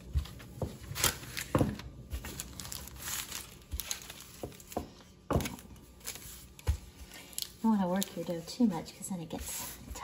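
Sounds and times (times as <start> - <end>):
parchment paper crinkling: 0.0 - 10.0.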